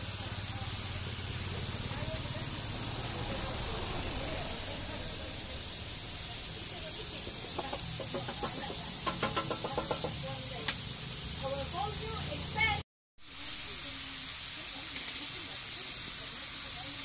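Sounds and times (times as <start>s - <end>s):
hot oil sizzling and bubbling: 0.0s - 17.0s.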